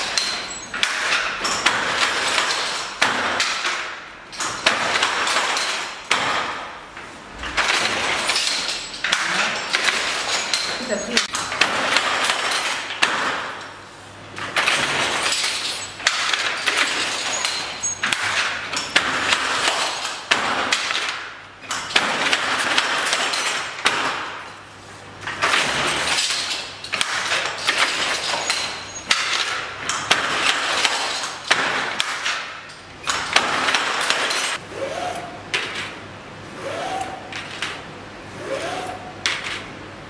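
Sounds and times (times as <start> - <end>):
sharp knocks of loom: 0.0 - 6.8, 7.4 - 13.8, 14.4 - 24.5, 25.2 - 35.9
loom clacking and clinking: 0.0 - 24.6, 25.2 - 34.6.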